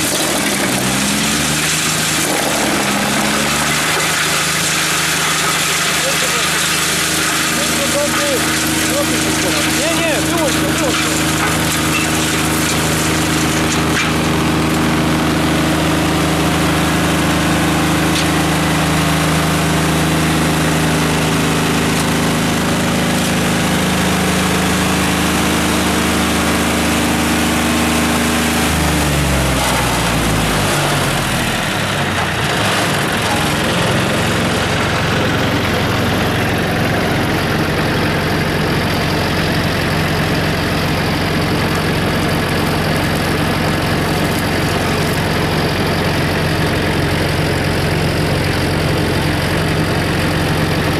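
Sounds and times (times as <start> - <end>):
wood chipper diesel engine running: 0.0 - 50.9.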